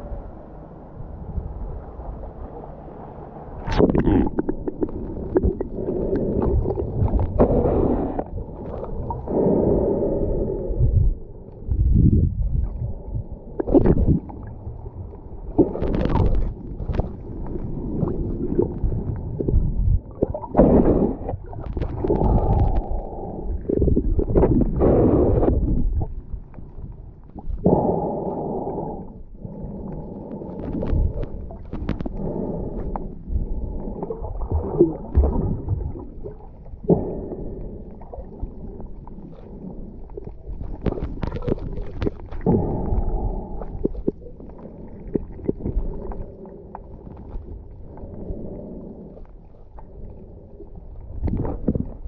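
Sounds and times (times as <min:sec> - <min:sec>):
muffled underwater gurgling and sloshing: 0:00.0 - 0:52.0.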